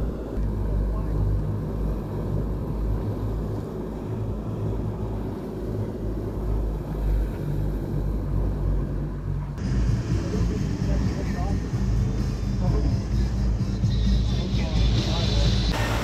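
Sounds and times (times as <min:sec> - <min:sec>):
wind buffeting microphone: 0:00.0 - 0:15.8
outboard motors droning: 0:00.0 - 0:16.0
rush of boat wake: 0:00.0 - 0:16.0.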